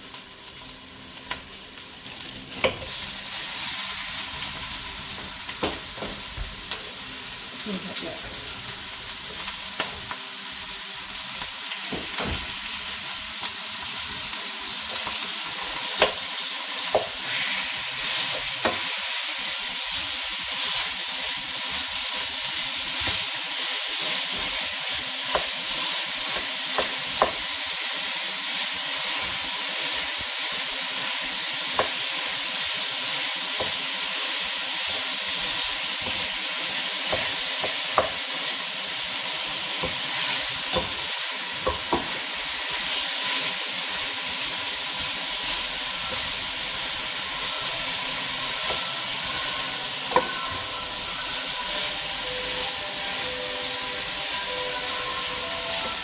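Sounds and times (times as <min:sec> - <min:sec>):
meat sizzling in a pan: 0:00.0 - 0:56.0.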